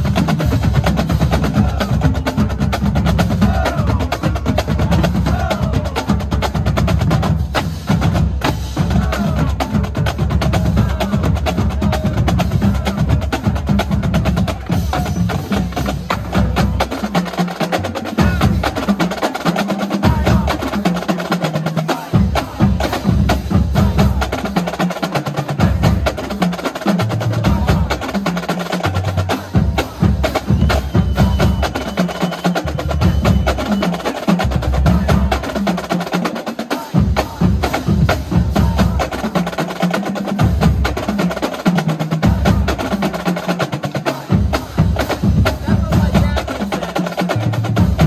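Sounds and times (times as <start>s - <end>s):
bass drums: 0.0s - 21.2s, 21.9s - 48.0s
snare drum rolls: 0.0s - 48.0s.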